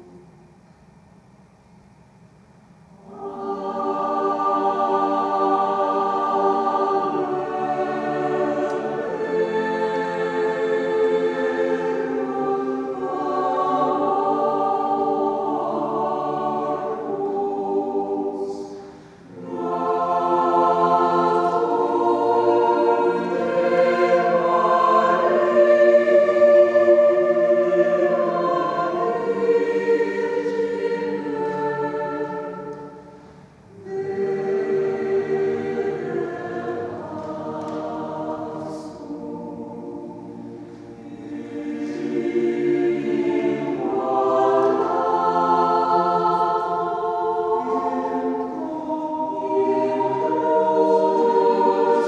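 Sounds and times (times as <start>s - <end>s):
choir singing unaccompanied: 0.0s - 0.3s, 2.9s - 52.0s.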